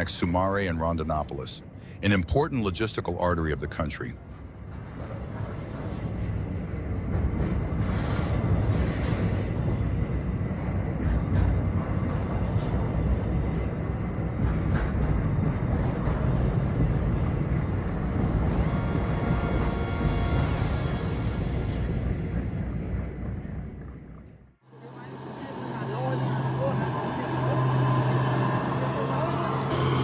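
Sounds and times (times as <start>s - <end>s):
freight train rumbling past: 3.5s - 30.0s.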